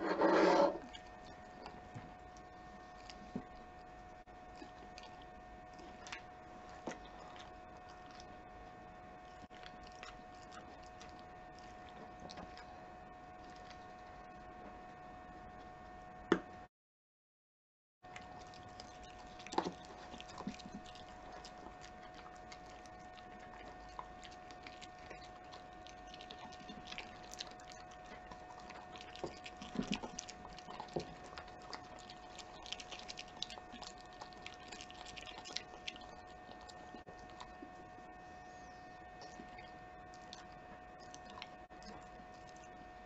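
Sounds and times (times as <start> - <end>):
faint steady hum: 0.0 - 16.7, 18.1 - 43.0
dog chewing and licking food: 0.9 - 14.2, 18.1 - 42.9.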